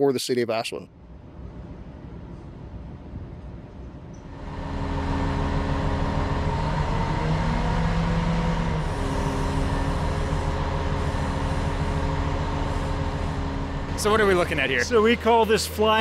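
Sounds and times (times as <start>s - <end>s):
crane diesel engine running: 1.0s - 16.0s.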